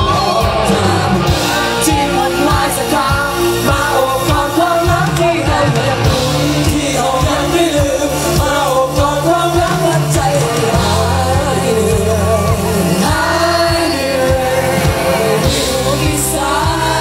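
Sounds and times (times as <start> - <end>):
band with steady drum beat: 0.0 - 17.0
men singing into microphones: 0.0 - 17.0.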